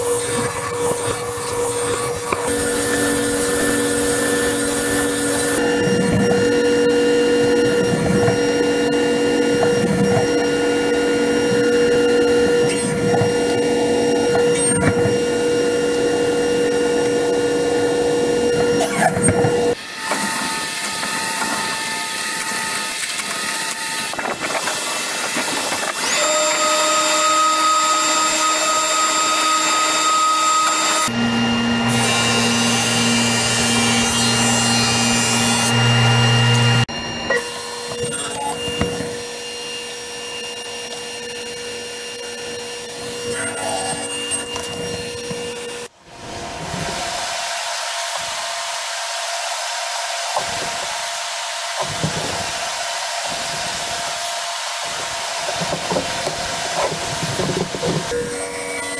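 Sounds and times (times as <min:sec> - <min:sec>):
drum sander humming drone: 0:00.0 - 0:58.9
table saw running: 0:00.0 - 0:58.9.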